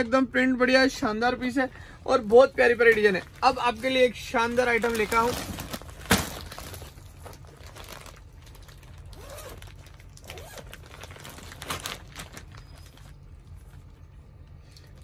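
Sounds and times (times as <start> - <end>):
plastic bags crinkling: 1.5 - 15.0
plastic crackles: 2.0 - 15.0.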